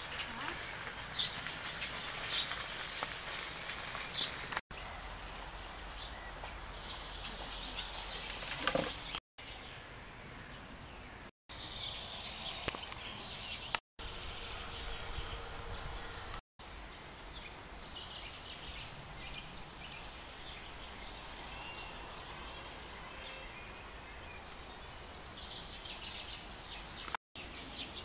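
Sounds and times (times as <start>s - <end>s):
outdoor background noise: 0.0s - 28.0s
small birds chirping: 0.1s - 16.3s, 16.9s - 28.0s.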